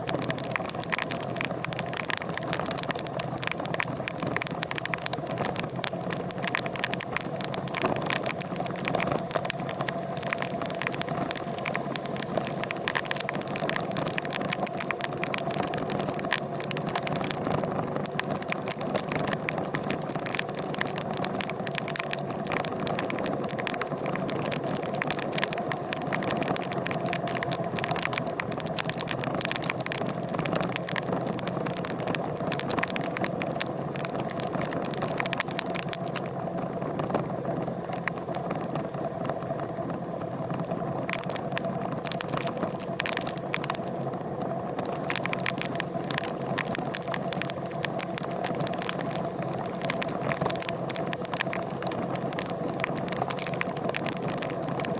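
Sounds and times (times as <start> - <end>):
sharp clicks and crackles: 0.0 - 54.9.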